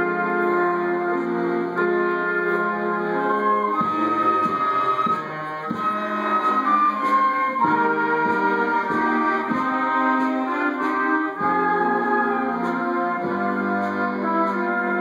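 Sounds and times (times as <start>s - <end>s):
concert band playing chords: 0.0s - 15.0s.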